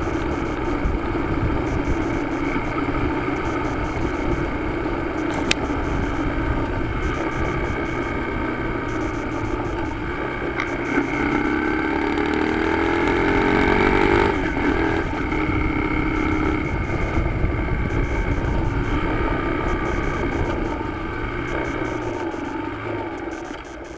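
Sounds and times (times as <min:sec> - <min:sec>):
motorcycle engine accelerating: 0:00.0 - 0:23.9
road and wind noise: 0:00.0 - 0:23.9.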